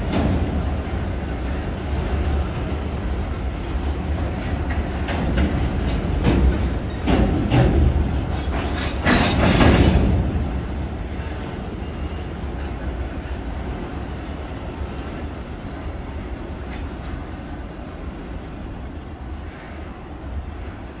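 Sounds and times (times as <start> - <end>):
freight train rolling on rails: 0.0 - 21.0.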